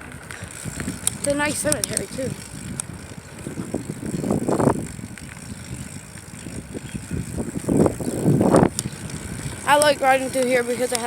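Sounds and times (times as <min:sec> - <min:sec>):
bicycle riding noise: 0:00.0 - 0:11.0
rushes of noise: 0:00.0 - 0:11.0.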